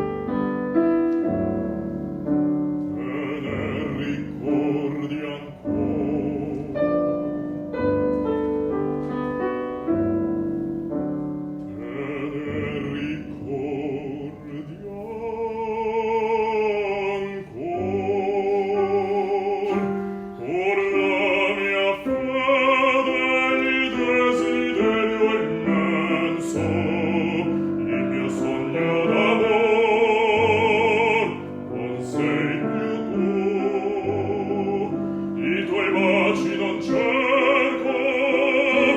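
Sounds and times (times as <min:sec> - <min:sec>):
bass singing operatically: 0:00.0 - 0:38.9
piano accompaniment: 0:00.0 - 0:38.9.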